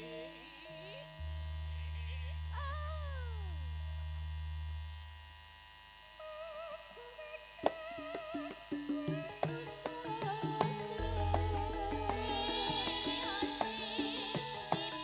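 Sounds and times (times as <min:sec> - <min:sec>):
low steady tone: 0:00.0 - 0:05.5, 0:07.4 - 0:15.0
faint wavering melody: 0:00.0 - 0:15.0.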